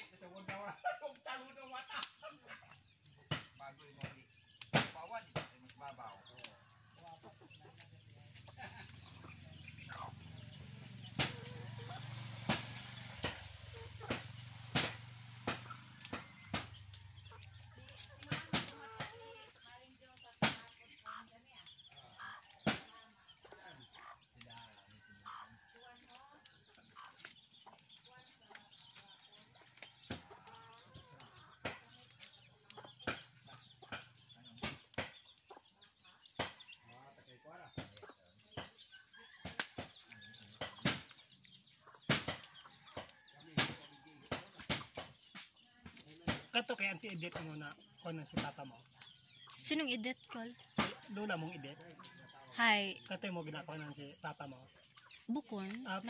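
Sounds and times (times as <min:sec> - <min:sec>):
chickens clucking: 0:00.0 - 0:56.0
firewood cracking: 0:00.0 - 0:56.0.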